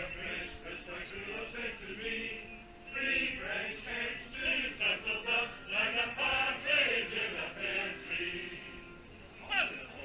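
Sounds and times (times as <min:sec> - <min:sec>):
group singing a carol: 0:00.0 - 0:09.0.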